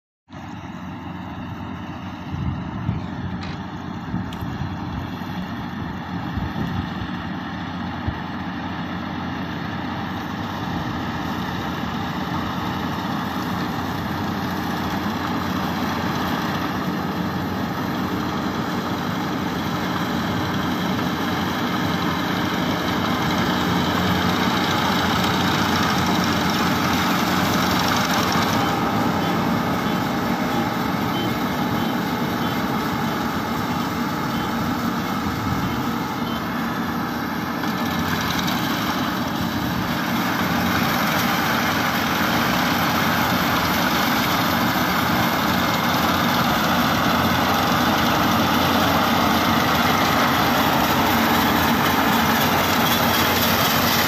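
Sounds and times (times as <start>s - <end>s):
harvester engine running: 0.3s - 54.0s.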